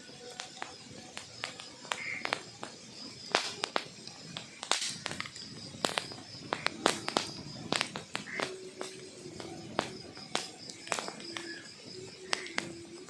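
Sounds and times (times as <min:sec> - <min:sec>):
burning logs crackling and popping: 0:00.0 - 0:13.0
low hiss of fire: 0:00.0 - 0:13.0.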